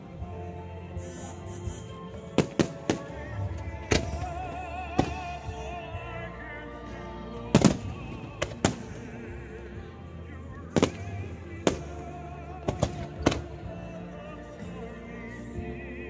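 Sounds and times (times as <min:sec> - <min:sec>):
music with singing voice: 0:00.0 - 0:16.0.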